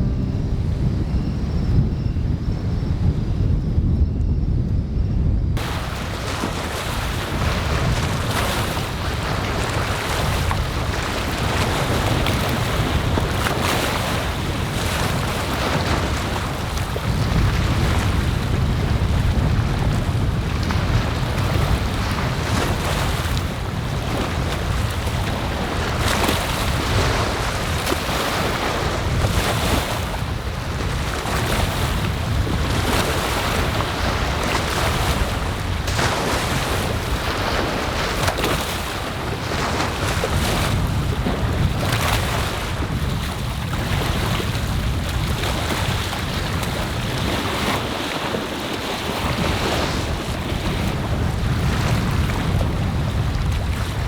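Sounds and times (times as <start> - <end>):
wind buffeting microphone: 0.0 - 54.0
waves breaking on shore: 5.6 - 54.0.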